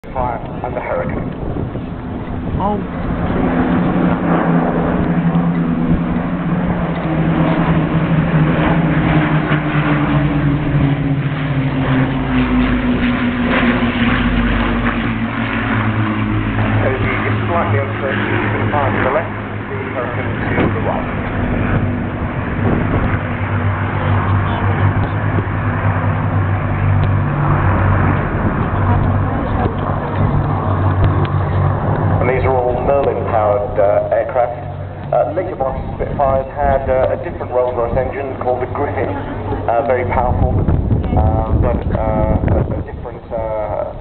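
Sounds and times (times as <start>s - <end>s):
propeller planes flying past: 0.0s - 44.0s.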